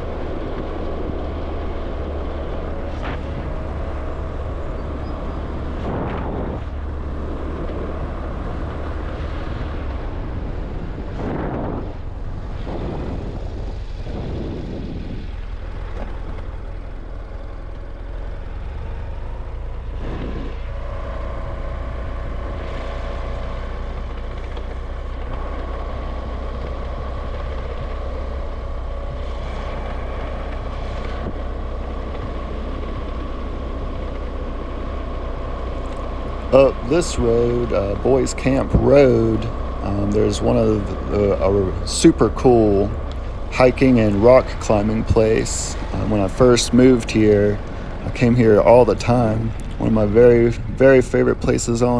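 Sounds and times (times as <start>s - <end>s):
vehicle engine and tyre rumble: 0.0s - 51.9s.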